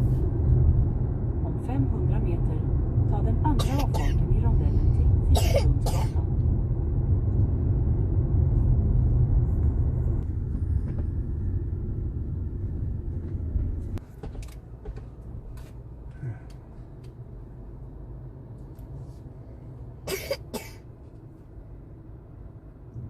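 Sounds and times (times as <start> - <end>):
car cabin road and engine rumble: 0.0 - 23.0.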